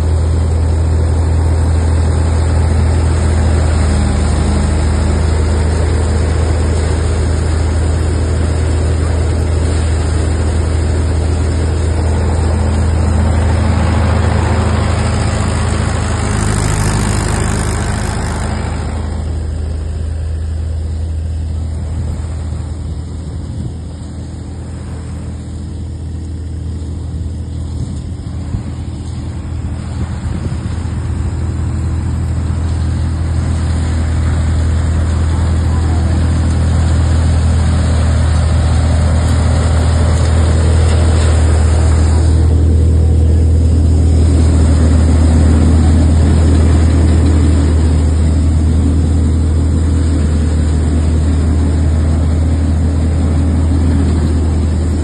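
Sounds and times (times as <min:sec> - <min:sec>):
thresher mechanical noise: 0:00.0 - 0:55.0
tractor diesel engine running: 0:00.0 - 0:55.0.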